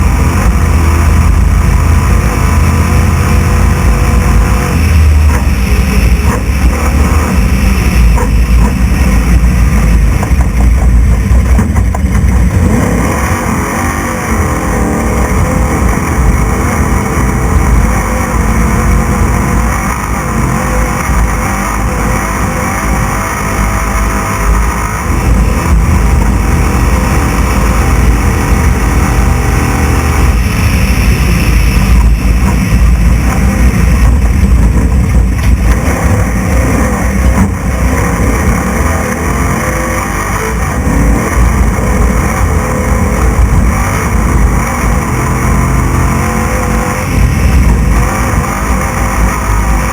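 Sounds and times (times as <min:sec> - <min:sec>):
race truck engine: 0:00.0 - 0:49.9.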